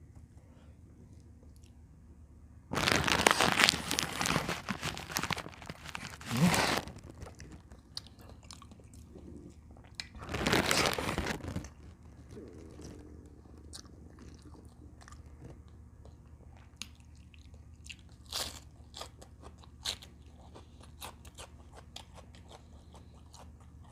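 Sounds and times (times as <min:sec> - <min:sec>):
crackly chewing and biting: 0:02.7 - 0:23.9.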